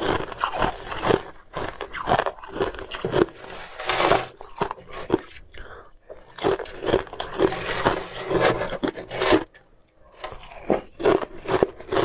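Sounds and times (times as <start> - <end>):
crunching ice in mouth: 0.0 - 12.0.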